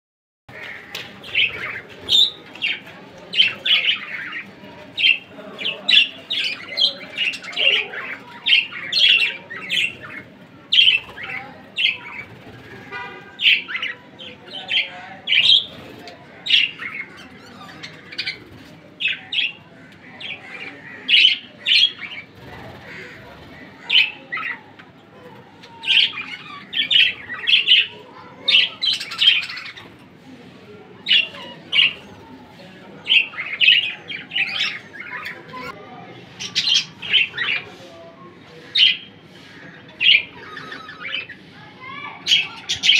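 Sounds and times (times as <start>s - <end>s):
budgerigars chirping and squawking: 0.5s - 42.9s.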